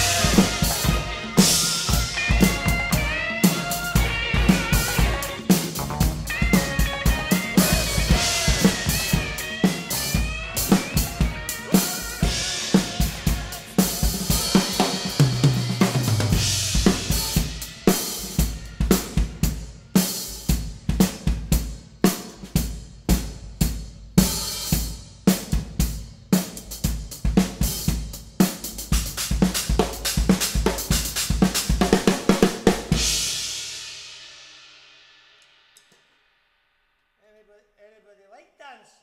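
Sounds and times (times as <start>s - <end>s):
pop-rock backing track: 0.0s - 33.9s
acoustic drum kit beat: 0.0s - 34.6s.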